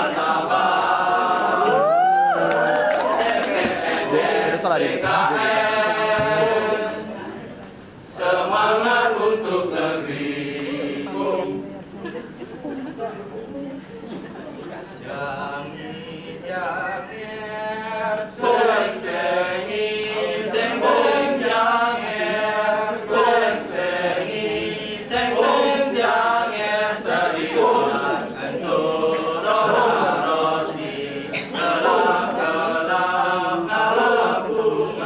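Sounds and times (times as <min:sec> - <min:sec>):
male chorus chanting: 0:00.0 - 0:02.0, 0:03.1 - 0:07.2, 0:08.1 - 0:11.7, 0:15.0 - 0:35.0.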